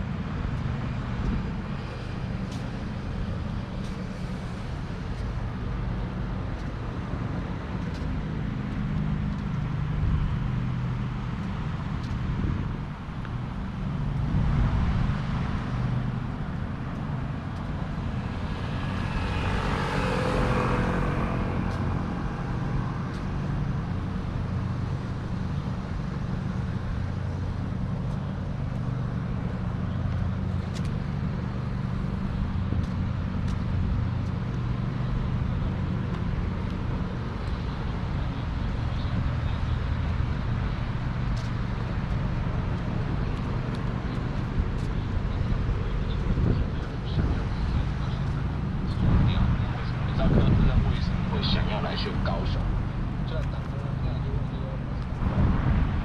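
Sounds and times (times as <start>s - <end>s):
cars passing rumble: 0.0s - 56.0s
vehicle passing by: 0.0s - 56.0s.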